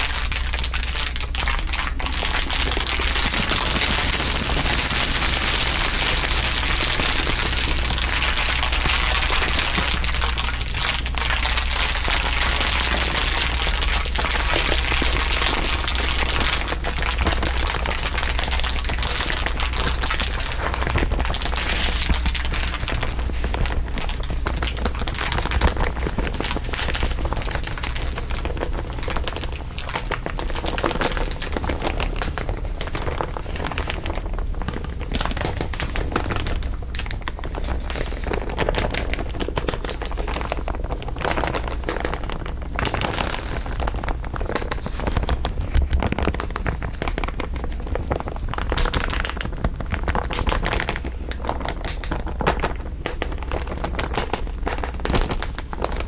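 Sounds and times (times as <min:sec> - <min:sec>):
dense continuous crinkling: 0:00.0 - 0:56.0.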